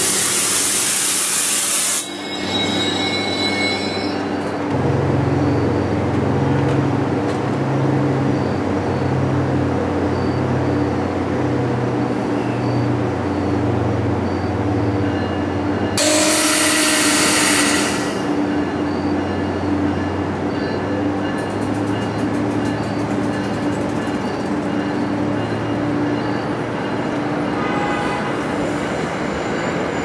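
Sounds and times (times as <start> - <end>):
train engine humming: 0.0 - 30.0.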